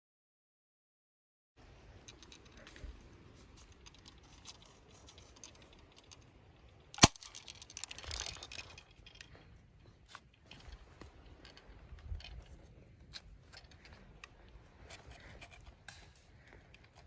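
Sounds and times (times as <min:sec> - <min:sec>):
rustle of movement: 0:01.6 - 0:17.0.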